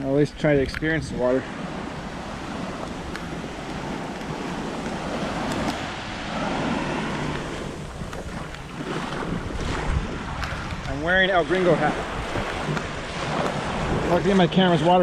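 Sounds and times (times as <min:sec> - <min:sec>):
small waves washing on beach: 0:00.0 - 0:15.0
wind buffeting microphone: 0:00.0 - 0:15.0.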